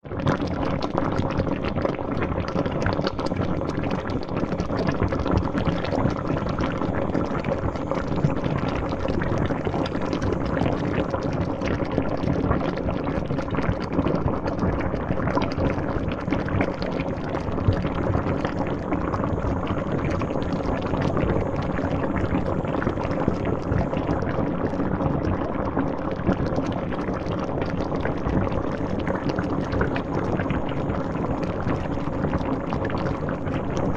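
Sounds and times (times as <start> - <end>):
water boiling in a pot: 0.0 - 33.9.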